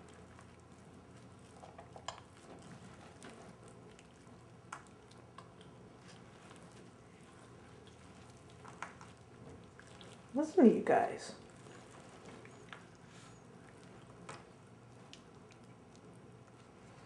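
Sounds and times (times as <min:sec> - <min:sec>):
turtles crunching food: 0:00.0 - 0:17.0.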